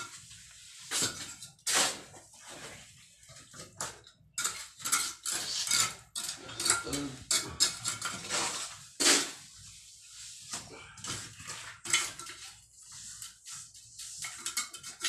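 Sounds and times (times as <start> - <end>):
metal tool scraping masonry: 0.0 - 3.4, 4.4 - 15.0.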